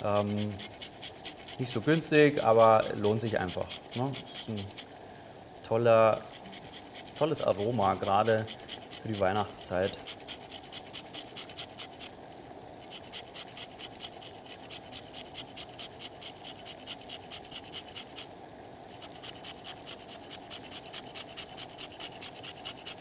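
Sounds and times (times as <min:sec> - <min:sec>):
bean scraping on grater: 0:00.0 - 0:05.0, 0:06.0 - 0:12.2, 0:12.8 - 0:18.3, 0:18.9 - 0:23.0.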